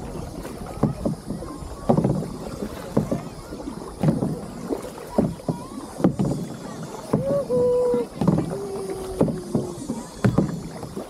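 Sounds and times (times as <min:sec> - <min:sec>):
paddle strokes splashing in water: 0:00.0 - 0:11.0.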